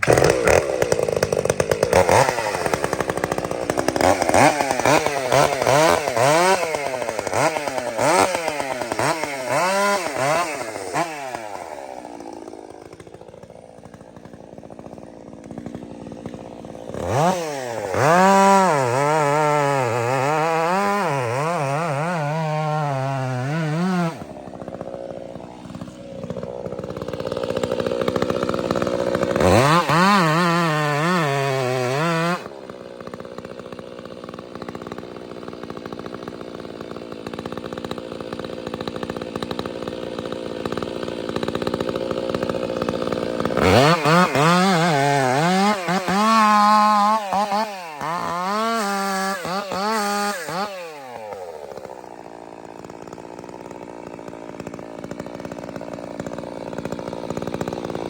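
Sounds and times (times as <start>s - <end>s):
chainsaw running and revving: 0.0s - 58.0s.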